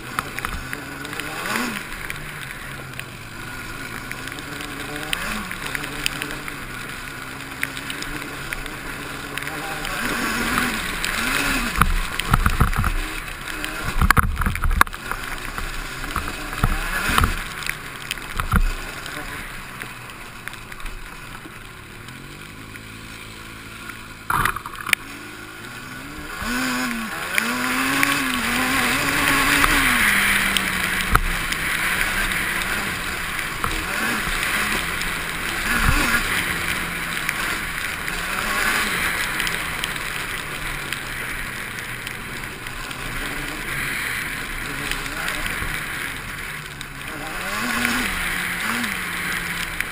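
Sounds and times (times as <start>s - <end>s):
quad bike engine revving: 0.0s - 49.9s.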